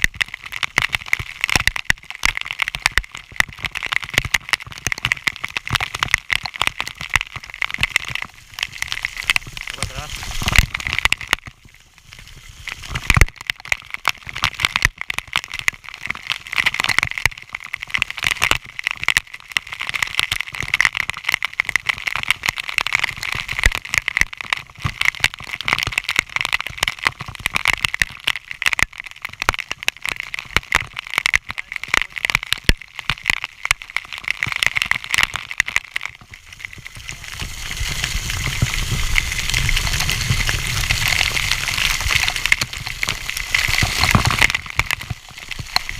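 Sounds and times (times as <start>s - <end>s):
waterfall splashing: 0.0s - 20.7s, 28.3s - 45.9s.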